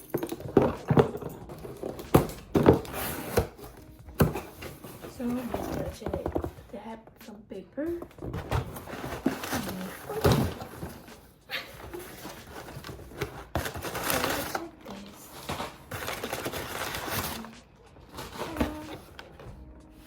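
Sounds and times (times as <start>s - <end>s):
packing paper rustling: 0.0s - 6.7s, 8.0s - 20.0s.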